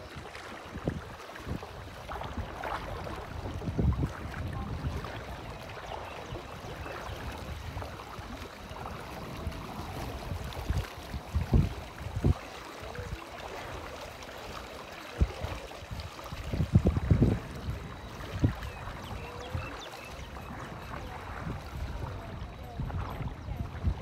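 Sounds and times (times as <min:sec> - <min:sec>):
water splashing against boat: 0:00.0 - 0:24.0.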